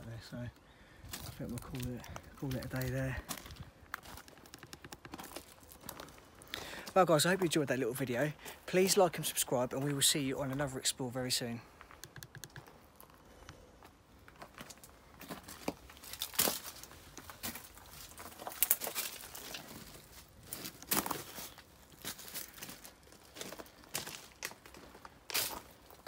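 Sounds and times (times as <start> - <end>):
footsteps on gravel: 1.1 - 11.1, 12.6 - 26.0.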